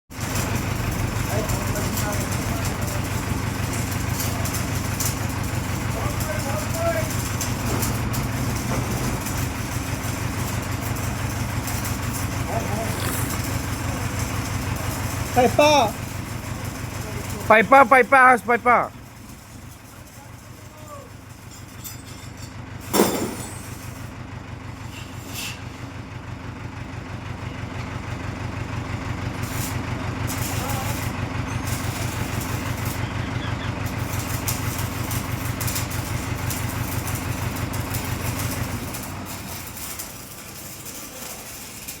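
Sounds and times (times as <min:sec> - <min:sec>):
diesel excavator engine throbbing: 0:00.2 - 0:21.5, 0:26.0 - 0:42.0.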